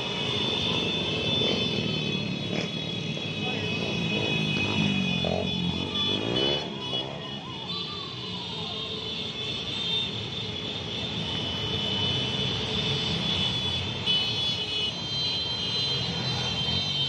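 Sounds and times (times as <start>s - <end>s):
scooters and motorcycles passing: 0.0s - 10.3s, 11.0s - 17.0s.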